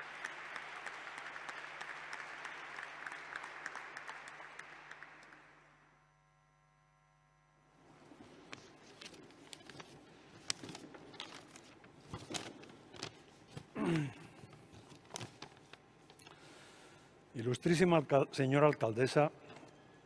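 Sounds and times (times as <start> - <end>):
low hall noise: 0.0 - 6.6, 7.5 - 20.0.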